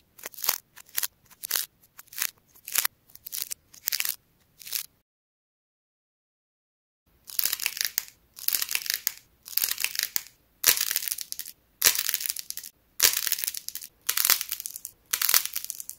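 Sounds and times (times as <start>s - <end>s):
dried clay surface cracking: 0.0s - 4.9s, 7.3s - 15.9s.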